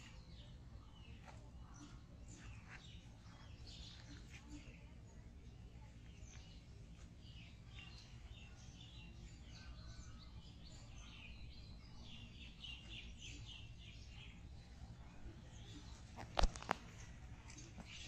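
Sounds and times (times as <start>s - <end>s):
low steady background rumble: 0.0s - 18.0s
small birds chirping: 0.0s - 18.0s.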